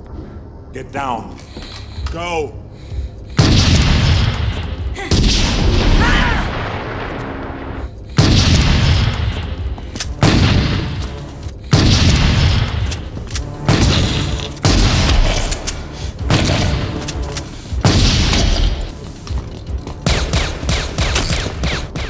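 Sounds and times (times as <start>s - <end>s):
tense orchestral music: 0.2s - 22.0s.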